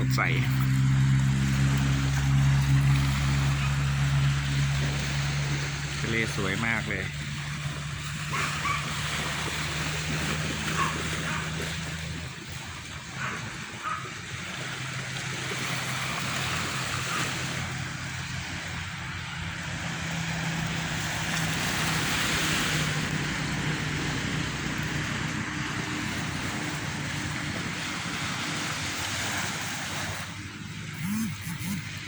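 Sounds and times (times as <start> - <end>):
low motor hum: 0.0 - 32.0
sea waves on sandy beach: 0.0 - 32.0.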